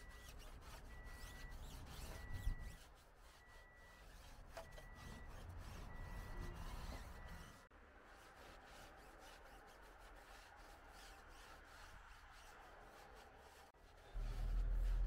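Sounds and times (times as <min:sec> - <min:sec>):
foam pad wiping tyre: 0:00.0 - 0:15.0.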